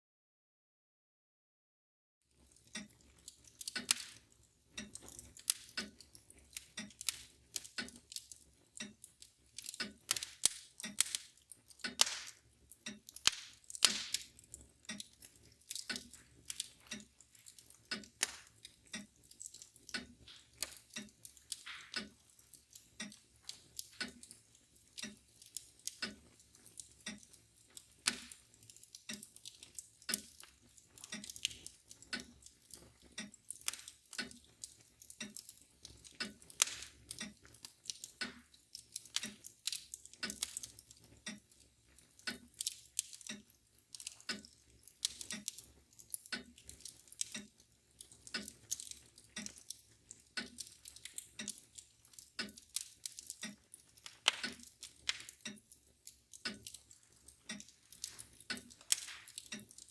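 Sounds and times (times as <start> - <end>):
wood fire crackling and popping: 2.3 - 59.9
clock ticking: 2.4 - 59.9.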